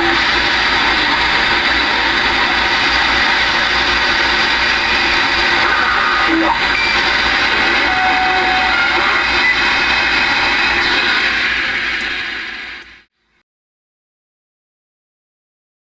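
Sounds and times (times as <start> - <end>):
garbled radio signals: 0.0 - 12.8
short radio tone: 0.0 - 12.9
radio static hiss: 0.0 - 13.1.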